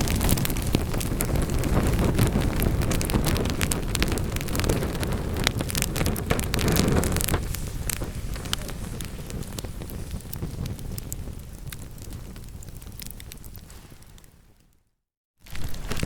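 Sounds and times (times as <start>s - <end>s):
low steady fire rumble: 0.0s - 14.7s
wood fire crackling and popping: 0.0s - 14.7s, 15.4s - 16.0s.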